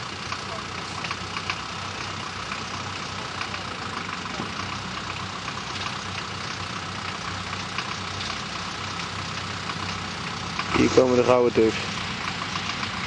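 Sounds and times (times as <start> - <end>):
off-road vehicle engine idling: 0.0 - 13.0.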